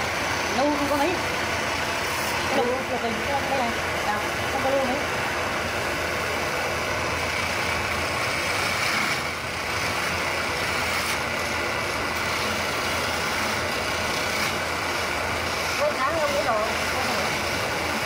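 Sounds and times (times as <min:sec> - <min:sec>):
lathe motor humming: 0:00.0 - 0:18.0
turning tool cutting wood: 0:00.0 - 0:18.0.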